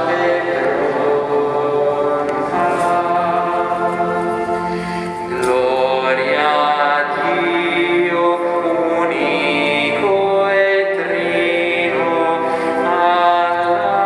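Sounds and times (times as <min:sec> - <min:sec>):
slow chant: 0:00.0 - 0:14.0.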